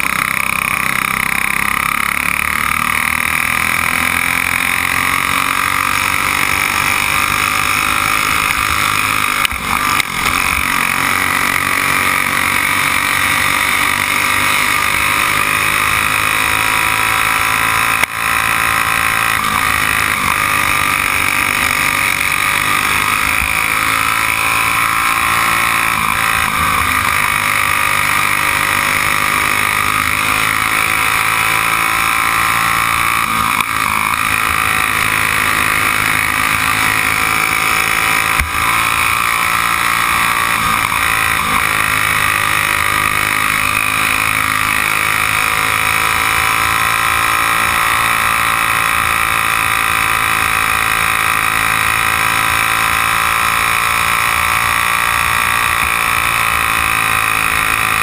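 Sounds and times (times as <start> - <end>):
kart engine running flat out: 0.0 - 58.0.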